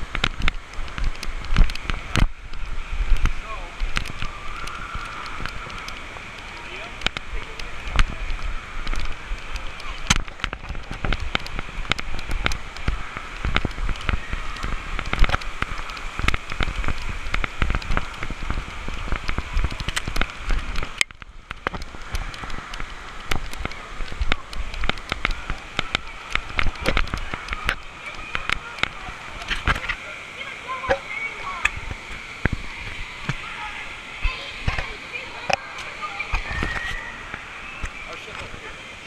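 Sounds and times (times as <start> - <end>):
rushing water wash: 0.0 - 39.0
water spattering on camera: 0.0 - 39.0.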